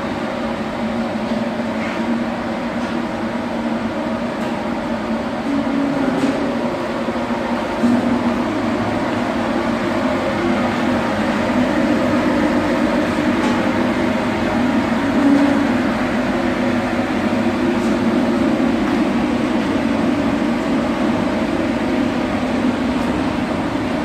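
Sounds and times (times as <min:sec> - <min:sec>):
rotary dryer machine drone: 0:00.0 - 0:24.0.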